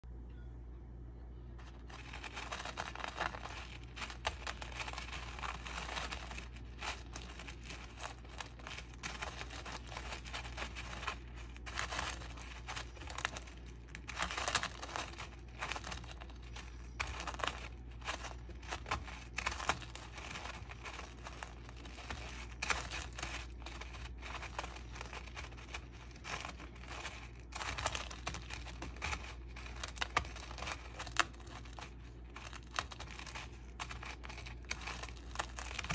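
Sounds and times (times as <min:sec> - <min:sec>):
cereal flakes rustling and crackling: 0:01.6 - 0:35.9.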